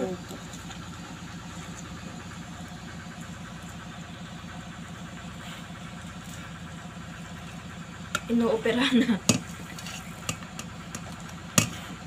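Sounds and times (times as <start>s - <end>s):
low mechanical hum with fast pulse: 0.0s - 12.0s.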